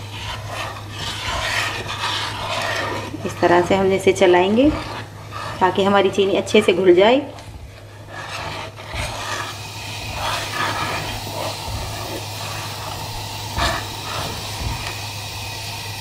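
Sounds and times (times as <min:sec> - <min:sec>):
milk hissing in a pan: 0:00.0 - 0:16.0
spatula scraping a pan: 0:00.0 - 0:16.0.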